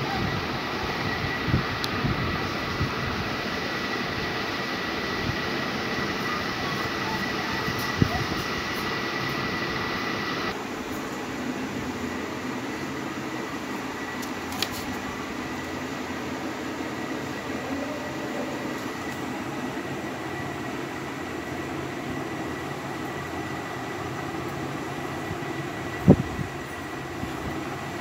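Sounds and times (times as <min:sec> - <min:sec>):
mechanical hum with high whine: 0:00.0 - 0:28.0.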